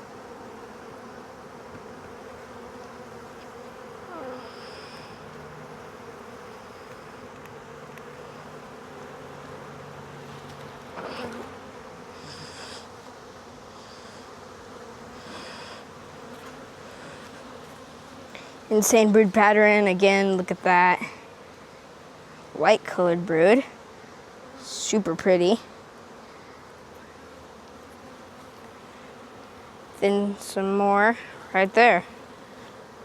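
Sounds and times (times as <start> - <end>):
honey bees buzzing: 0.0 - 33.0.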